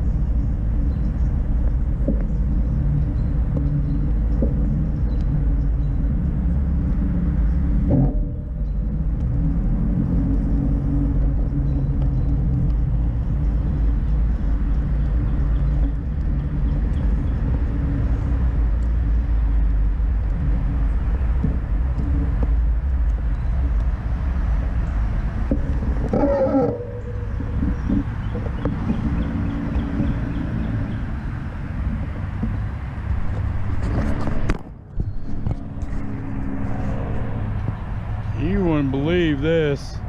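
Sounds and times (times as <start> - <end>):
droning hum: 0.0 - 40.0
wind buffeting microphone: 0.0 - 40.0.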